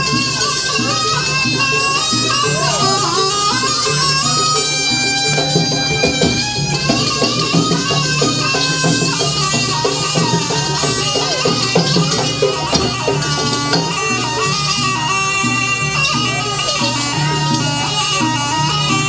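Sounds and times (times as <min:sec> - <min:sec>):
shrill reed shawm melody: 0:00.0 - 0:19.0.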